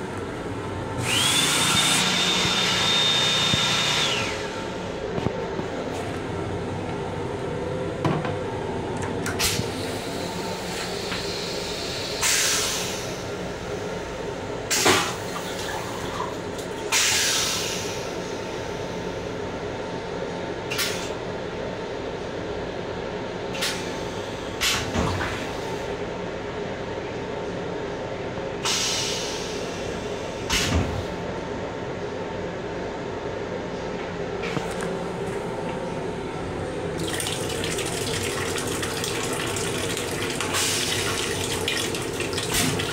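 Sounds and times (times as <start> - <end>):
railcar hum with held tones: 0.0 - 42.9.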